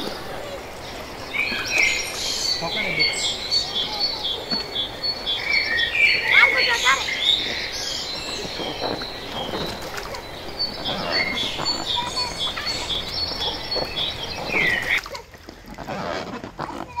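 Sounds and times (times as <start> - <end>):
birds chirping: 0.0 - 15.2.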